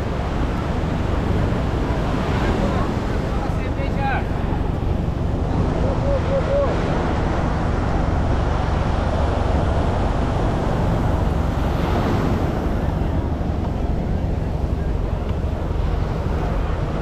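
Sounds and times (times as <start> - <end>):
surf washing onto shore: 0.0 - 17.0
wind buffeting microphone: 0.0 - 17.0.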